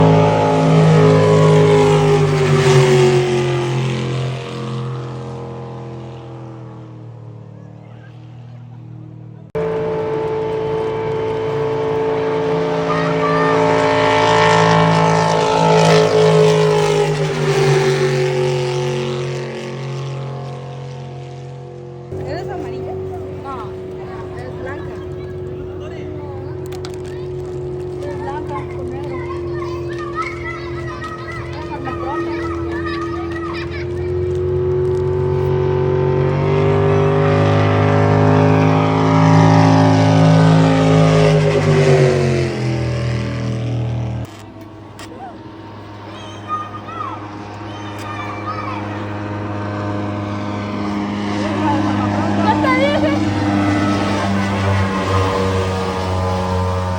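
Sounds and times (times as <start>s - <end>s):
motorboat engine at high revs: 0.0s - 56.9s.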